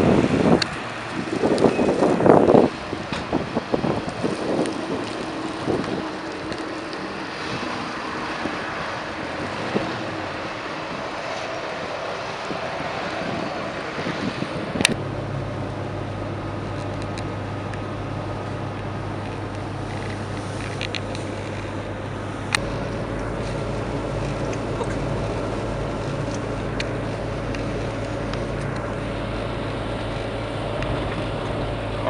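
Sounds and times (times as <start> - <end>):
road and engine noise in car: 0.0 - 32.0.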